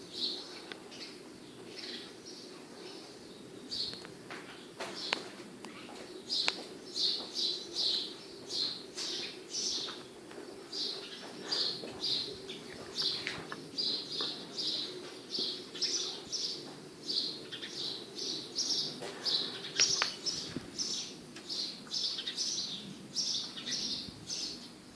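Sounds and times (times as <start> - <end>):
bird chirping: 0.0 - 24.8.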